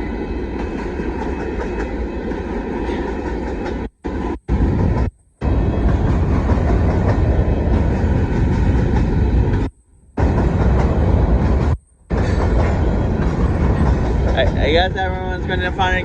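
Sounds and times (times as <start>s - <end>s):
freight cars rolling on rails: 0.0s - 16.0s.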